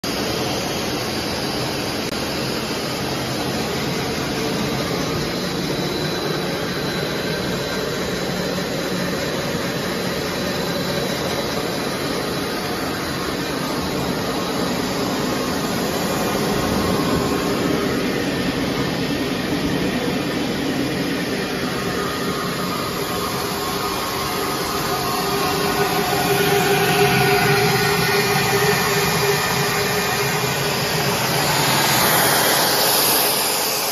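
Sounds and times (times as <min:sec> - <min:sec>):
faint high whine: 0:00.1 - 0:33.9
machinery running: 0:00.1 - 0:33.9.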